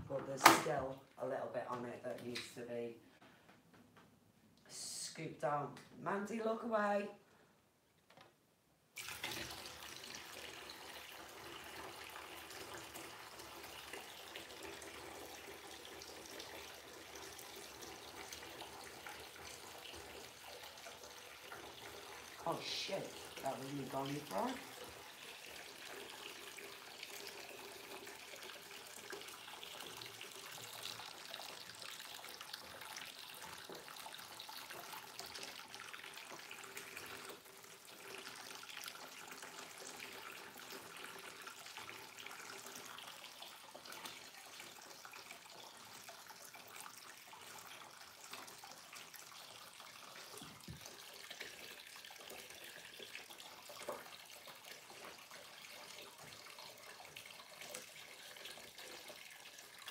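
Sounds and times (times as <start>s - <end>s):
aquarium water trickling: 9.0s - 59.9s.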